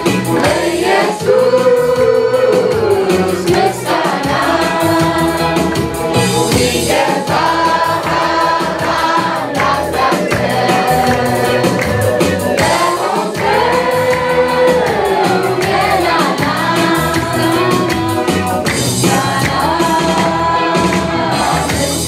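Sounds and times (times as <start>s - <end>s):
steady beat: 0.0s - 22.0s
children's choir singing: 0.3s - 18.4s, 19.0s - 22.0s.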